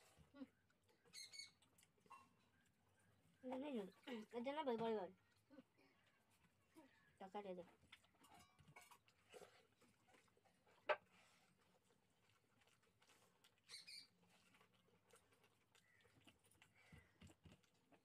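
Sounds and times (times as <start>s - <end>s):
soft chewing and mouth smacks: 0.0s - 18.0s.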